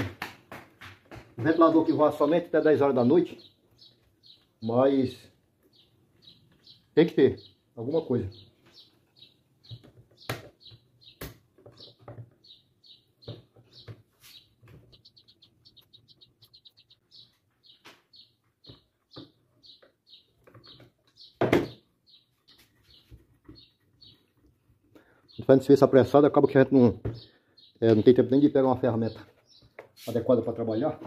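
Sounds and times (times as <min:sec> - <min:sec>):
small bird chirping: 0:02.4 - 0:31.0.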